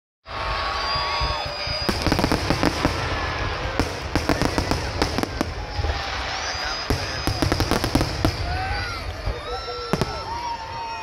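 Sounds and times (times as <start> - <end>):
fireworks crackling bangs: 0.9 - 11.0.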